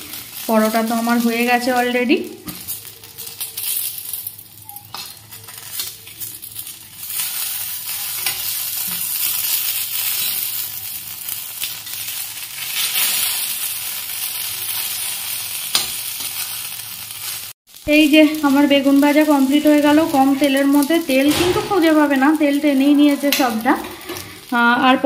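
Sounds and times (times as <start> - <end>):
eggplant sizzling in oil: 0.0 - 25.0.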